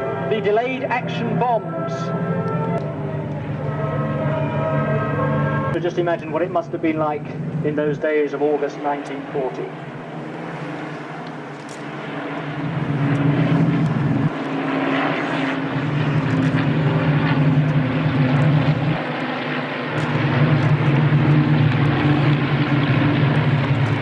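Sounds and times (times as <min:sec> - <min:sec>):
propeller planes flying over: 0:00.0 - 0:24.0.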